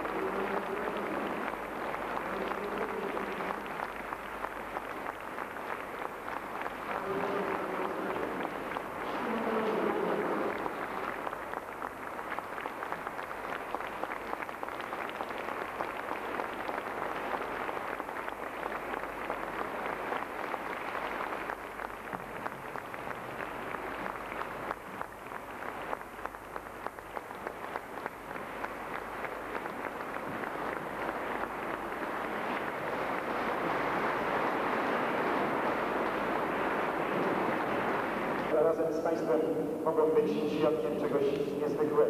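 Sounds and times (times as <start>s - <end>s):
audience clapping: 0.0s - 42.0s.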